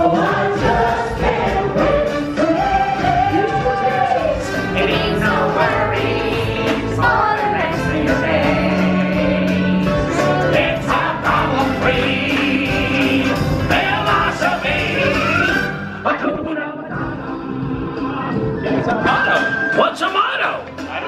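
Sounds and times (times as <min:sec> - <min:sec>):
choir singing show music: 0:00.0 - 0:21.0.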